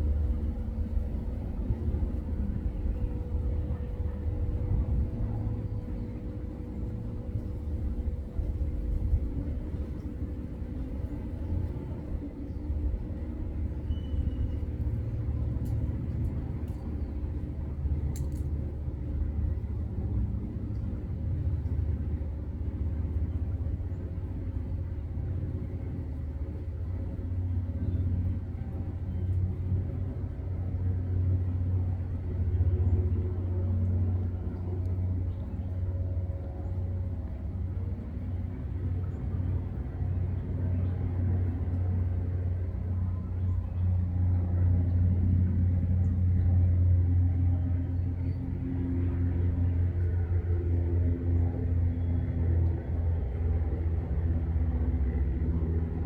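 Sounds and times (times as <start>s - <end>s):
low outdoor rumble: 0.0s - 56.0s.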